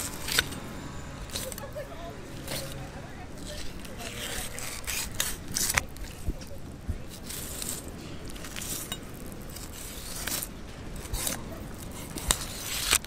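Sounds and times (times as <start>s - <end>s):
knife scraping fish bones: 0.0s - 0.6s, 2.4s - 13.0s.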